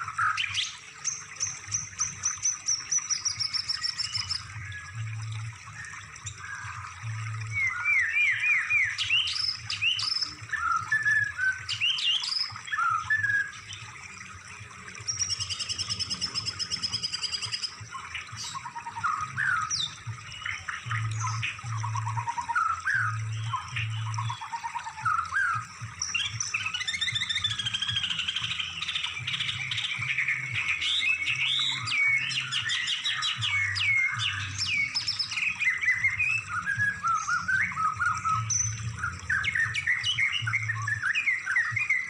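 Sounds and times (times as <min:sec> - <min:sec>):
songbird chirps and trills: 0:00.0 - 0:42.0.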